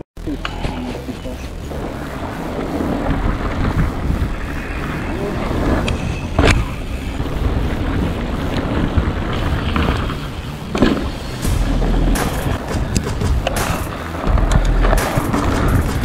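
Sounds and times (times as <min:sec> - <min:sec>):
wind on microphone: 0:00.4 - 0:16.0
mountain bike rolling over dirt: 0:00.5 - 0:16.0.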